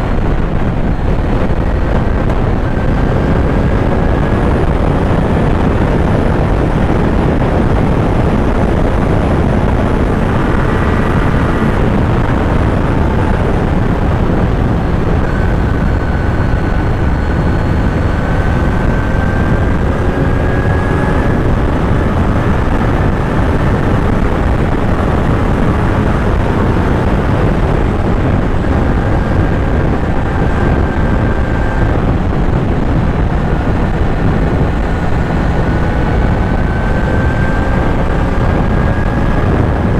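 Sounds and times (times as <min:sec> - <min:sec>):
motorcycle engine running: 0:00.0 - 0:39.9
wind rushing: 0:00.0 - 0:39.9.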